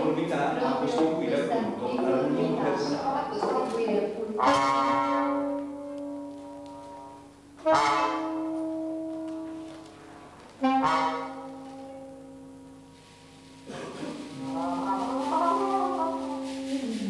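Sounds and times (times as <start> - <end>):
trumpet long held notes: 0.0 - 17.0.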